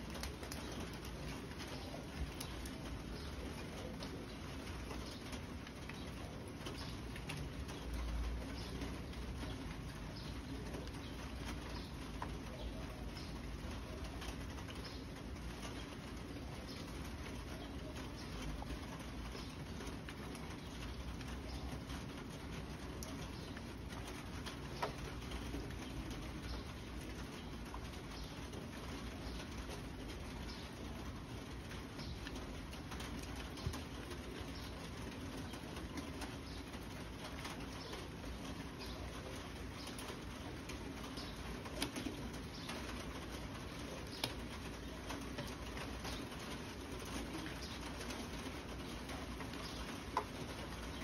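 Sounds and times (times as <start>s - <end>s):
scattered drips: 0.0s - 51.0s
steady rain falling: 0.0s - 51.0s.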